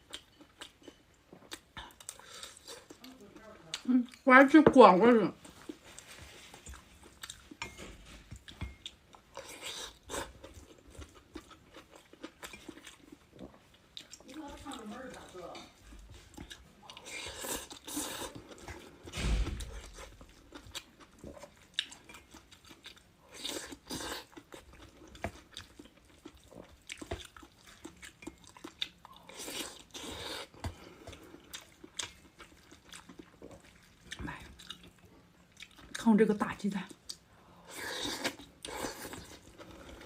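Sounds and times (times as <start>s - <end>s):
person chewing crunchy food: 0.0s - 4.2s, 5.4s - 36.0s, 36.9s - 40.0s.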